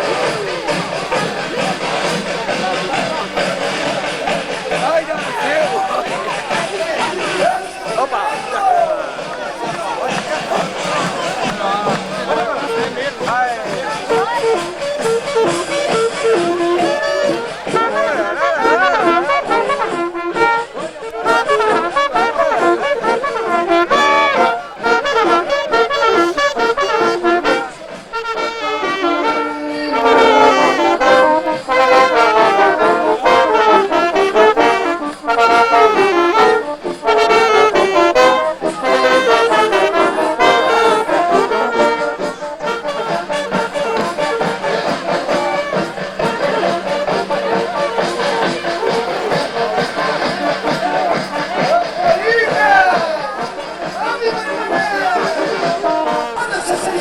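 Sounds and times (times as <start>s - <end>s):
brass music with trombones and trumpets: 0.0s - 57.0s.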